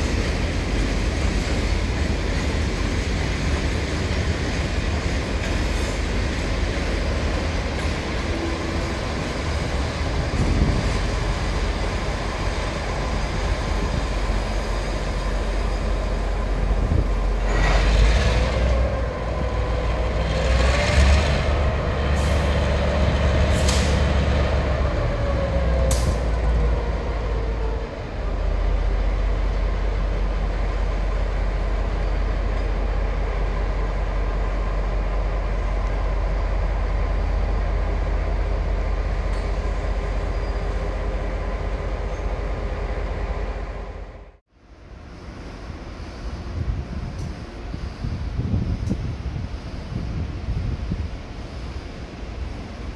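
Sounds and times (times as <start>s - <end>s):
diesel locomotive rumbling: 0.0s - 52.9s.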